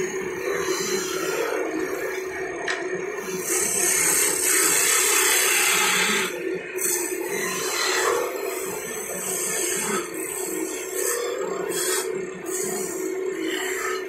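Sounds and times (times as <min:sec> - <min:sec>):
chisel cutting spinning wood: 0:00.0 - 0:14.0
wood lathe humming: 0:00.0 - 0:14.0.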